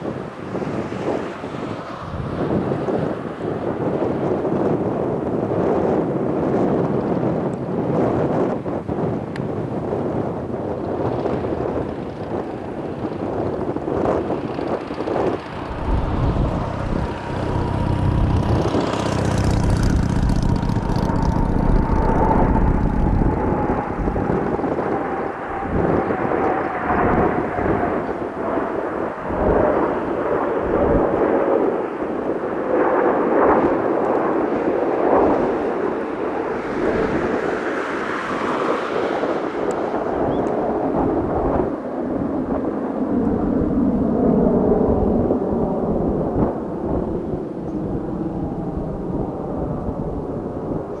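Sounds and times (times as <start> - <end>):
jet engines roaring past: 0.0 - 51.0.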